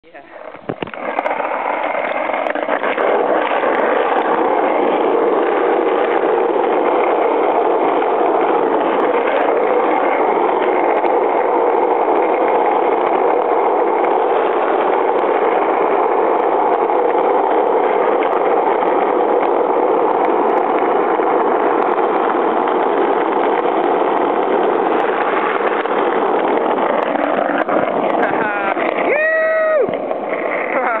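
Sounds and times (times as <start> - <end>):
longboard wheels rumbling on asphalt: 0.0 - 31.0.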